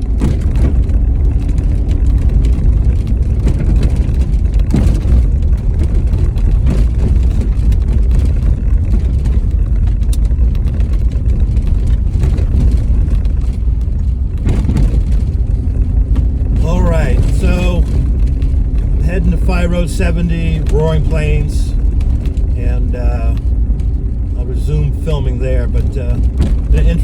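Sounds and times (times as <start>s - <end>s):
knocks or rattles: 0.0s - 24.8s, 25.7s - 27.0s
car engine and tyre rumble: 0.0s - 27.0s.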